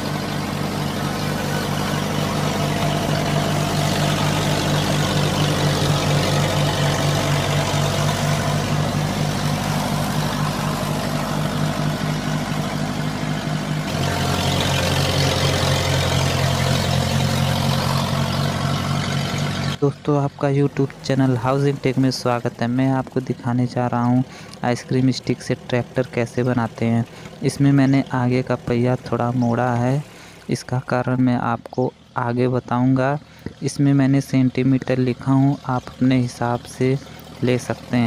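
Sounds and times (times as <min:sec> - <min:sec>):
diesel tractor engine chugging: 0:00.0 - 0:38.0.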